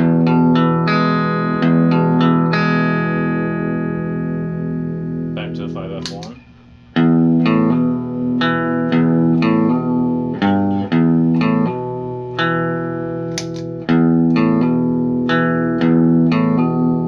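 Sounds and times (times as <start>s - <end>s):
clean electric guitar riff: 0.0s - 17.0s.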